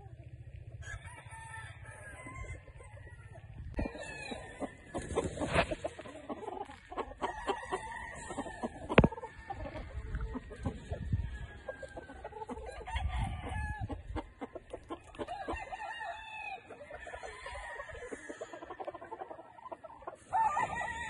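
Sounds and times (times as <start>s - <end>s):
rooster crowing and clucking: 0.6s - 21.0s.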